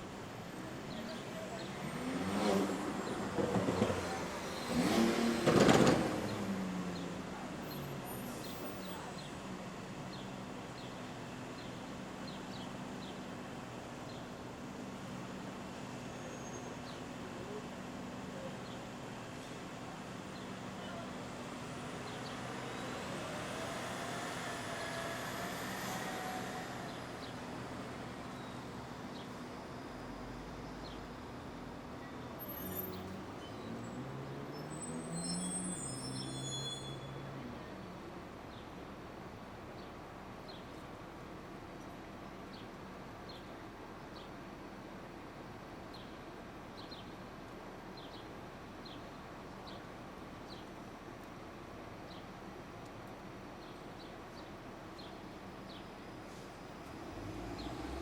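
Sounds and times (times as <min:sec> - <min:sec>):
city street traffic: 0:00.0 - 0:58.0.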